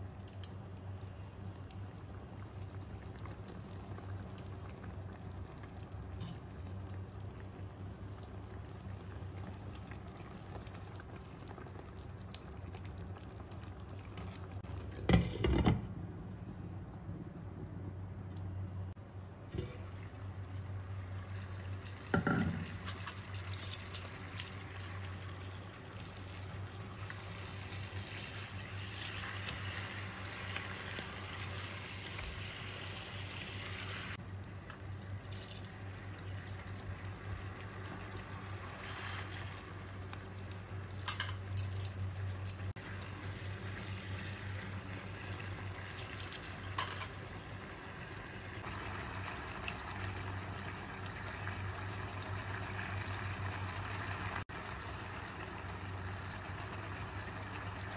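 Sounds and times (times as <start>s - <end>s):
sauce bubbling and sizzling: 0.0s - 15.4s, 19.4s - 57.9s
steady low hum: 0.0s - 49.6s.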